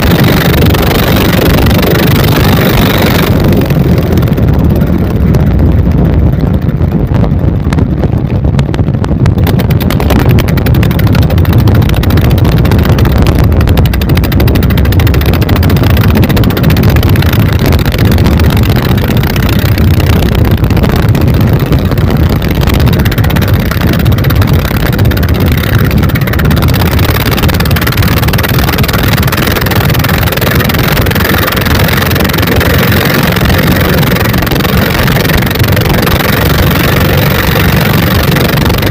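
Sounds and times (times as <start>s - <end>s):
diesel boat engines running: 0.0s - 38.9s.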